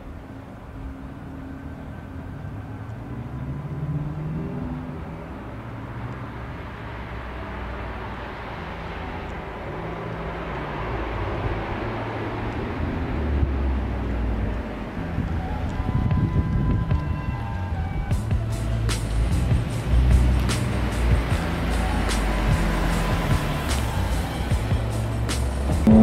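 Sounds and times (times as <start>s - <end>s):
car engine approaching: 0.0s - 26.0s.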